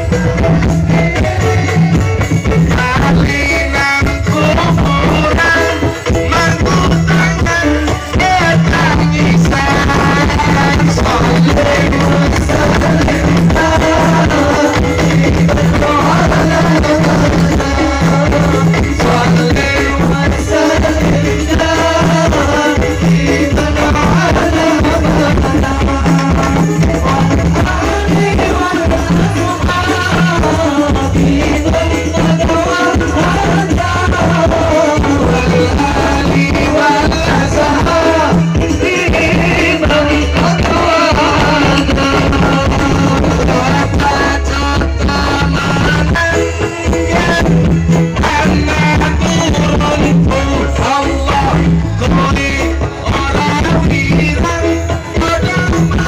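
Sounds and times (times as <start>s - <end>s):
pulsing bass beat: 0.0s - 56.0s
singing over a band: 0.0s - 56.0s.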